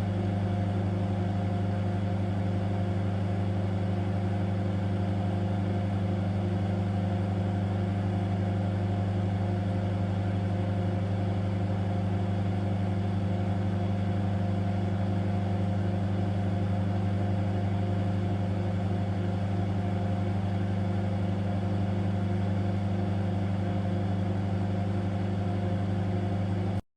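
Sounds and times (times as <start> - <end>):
microwave oven humming: 0.0 - 26.8.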